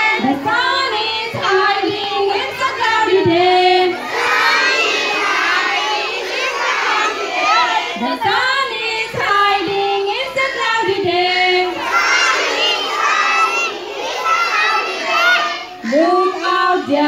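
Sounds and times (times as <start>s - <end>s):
children singing and shouting: 0.0s - 17.0s.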